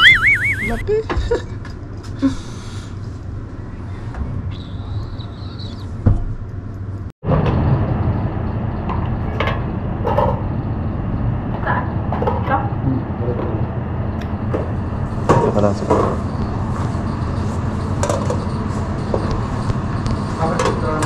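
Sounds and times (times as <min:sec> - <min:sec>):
low rumble of motor vehicles: 0:00.0 - 0:21.0.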